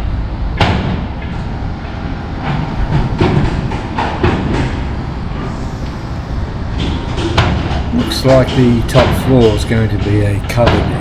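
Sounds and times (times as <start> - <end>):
train rumbling past: 0.0 - 11.0
wheels clacking on track: 0.0 - 11.0.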